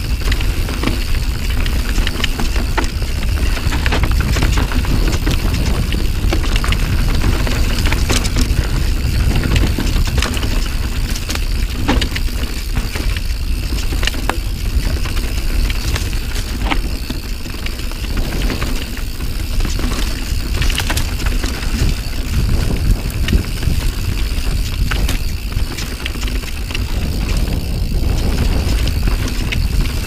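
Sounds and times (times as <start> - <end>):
bike clacking and rattling: 0.0 - 30.0
wind and tyre rumble: 0.0 - 30.0.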